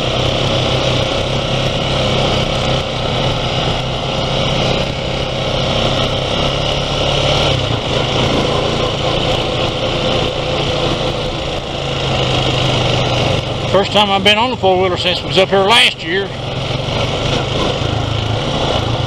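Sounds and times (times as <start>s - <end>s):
atv engine running: 0.0s - 19.0s
wind: 0.0s - 19.0s.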